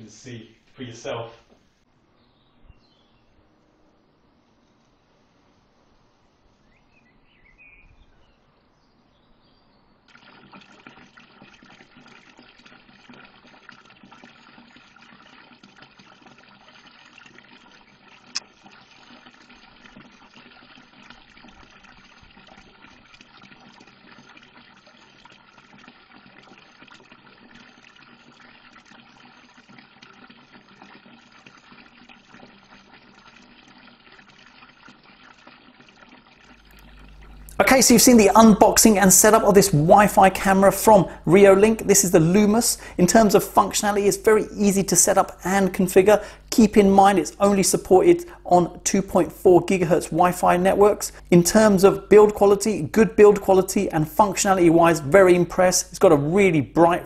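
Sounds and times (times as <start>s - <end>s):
faint outdoor hiss: 0.0s - 15.4s, 16.0s - 57.0s.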